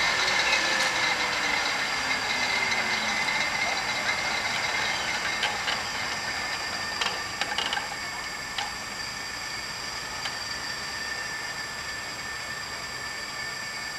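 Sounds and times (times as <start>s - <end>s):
helicopter turbine whine: 0.0s - 13.9s.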